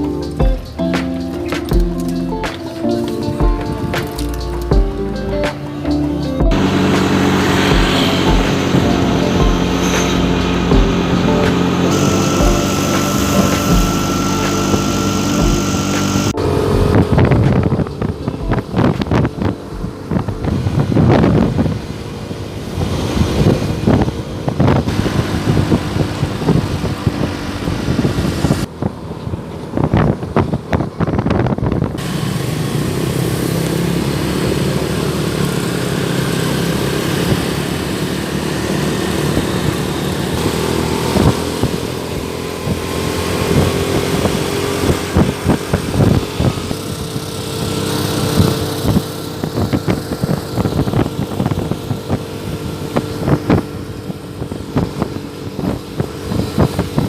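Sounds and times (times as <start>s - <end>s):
motor engine running: 0.0s - 57.0s.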